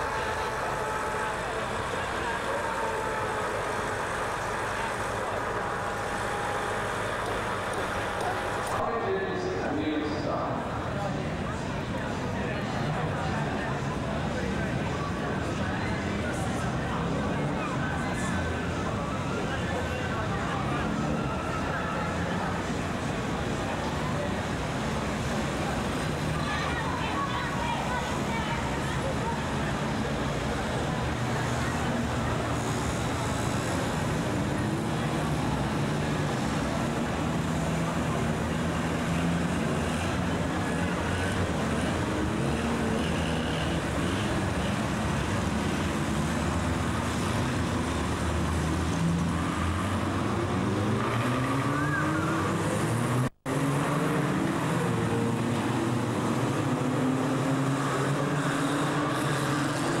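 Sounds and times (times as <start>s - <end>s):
racing car engines revving: 0.0s - 60.0s.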